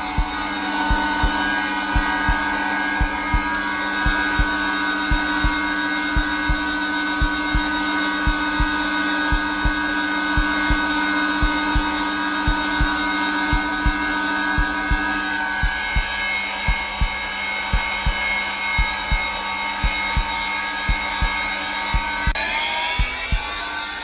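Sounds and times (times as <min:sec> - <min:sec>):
heartbeat thumping: 0:00.0 - 0:23.6
vacuum cleaner motor hum: 0:00.0 - 0:24.0.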